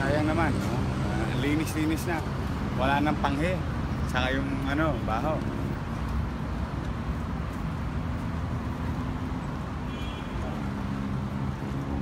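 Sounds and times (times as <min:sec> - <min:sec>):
traffic engine hum: 0:00.0 - 0:12.0.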